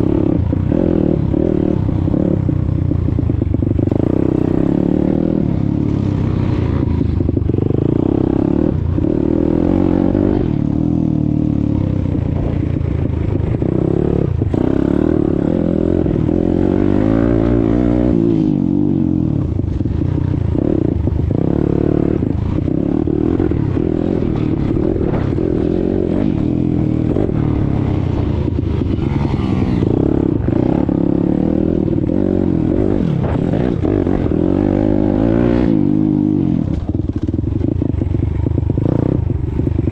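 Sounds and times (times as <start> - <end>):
pit bike engine revving: 3.4 - 39.9.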